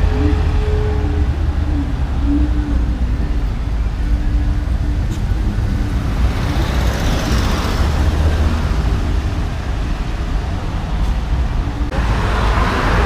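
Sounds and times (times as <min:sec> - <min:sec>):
low traffic rumble: 0:00.0 - 0:13.0
vehicle passing: 0:00.0 - 0:13.0.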